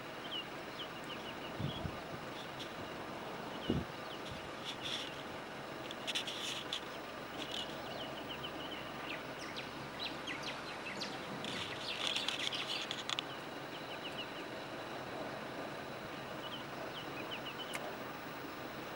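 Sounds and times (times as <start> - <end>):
steady background hiss: 0.0 - 18.9
wild birds chirping: 0.0 - 18.9.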